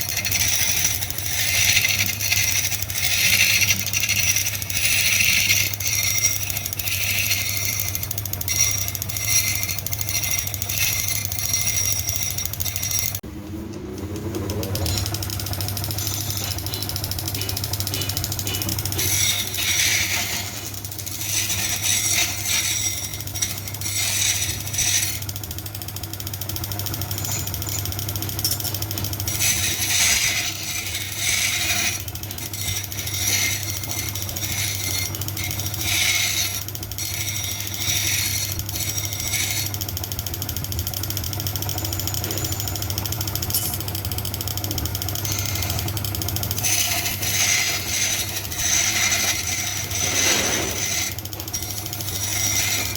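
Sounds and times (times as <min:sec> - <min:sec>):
metal parts clinking and rattling: 0:00.0 - 0:13.2, 0:14.8 - 0:25.3, 0:27.1 - 0:40.7, 0:41.7 - 0:52.9
low machine hum: 0:00.0 - 0:52.9.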